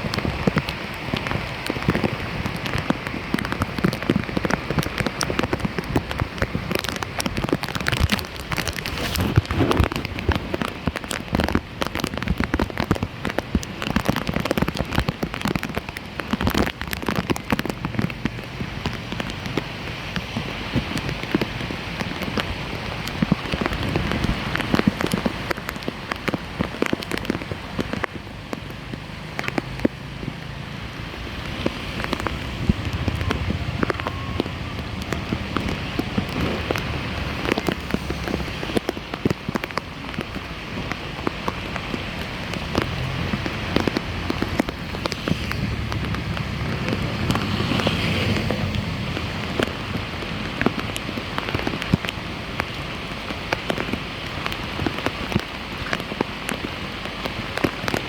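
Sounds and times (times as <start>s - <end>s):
water pattering and splashing: 0.0s - 58.0s.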